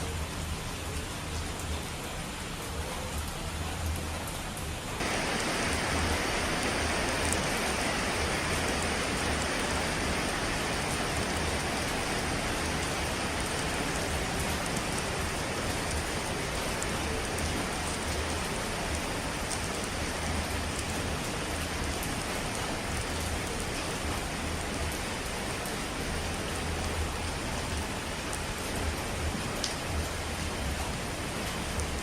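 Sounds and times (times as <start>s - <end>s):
steady rain hiss: 0.0s - 32.0s
raindrop ticks: 0.8s - 32.0s.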